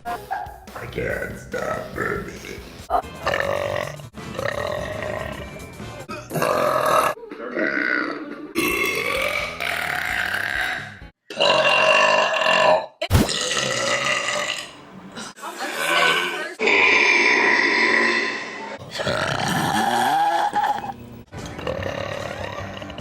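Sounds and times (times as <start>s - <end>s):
woman burping loudly: 3.2s - 23.0s.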